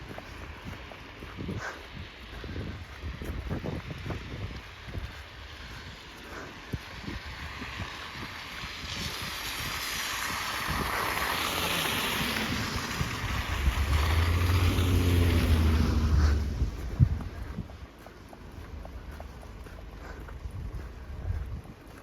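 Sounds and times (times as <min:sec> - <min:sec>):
wind gusting: 0:00.0 - 0:18.0
wind buffeting microphone: 0:00.0 - 0:22.0.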